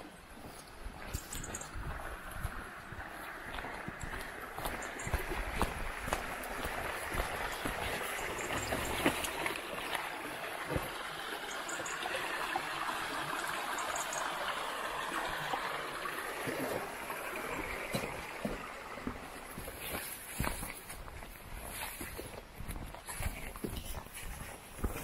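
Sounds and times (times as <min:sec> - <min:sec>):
stream water rushing: 0:00.0 - 0:22.4.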